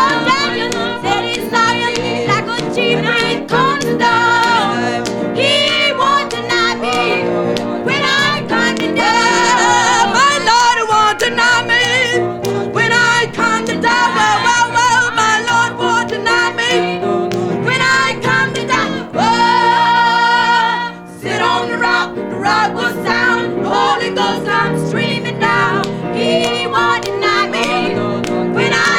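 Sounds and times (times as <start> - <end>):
instrumental accompaniment: 0.0 - 28.9
person singing gospel song: 0.0 - 28.9.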